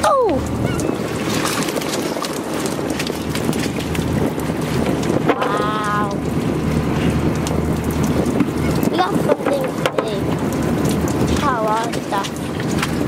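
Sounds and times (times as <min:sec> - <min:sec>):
boat engine running: 0:00.0 - 0:13.0
wind on the microphone: 0:00.0 - 0:13.0.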